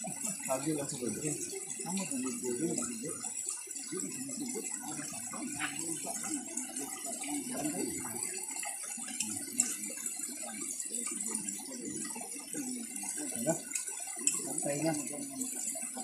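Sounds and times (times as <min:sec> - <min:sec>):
low indistinct voices: 0:00.0 - 0:16.0.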